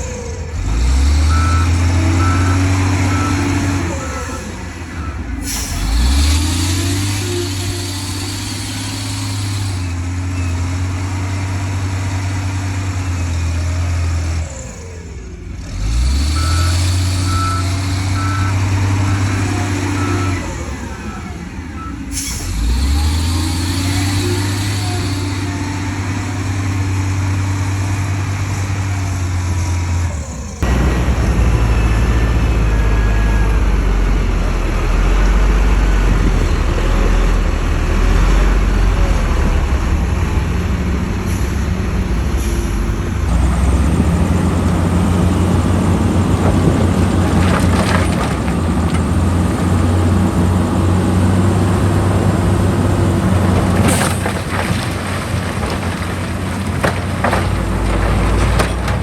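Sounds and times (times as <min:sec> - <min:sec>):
heavy diesel machinery humming: 0:00.0 - 0:59.0.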